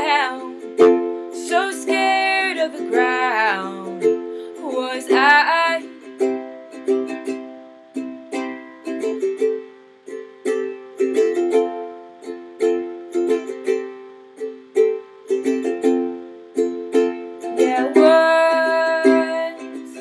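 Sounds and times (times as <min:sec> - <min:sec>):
plucked string instrument chords: 0:00.0 - 0:20.0.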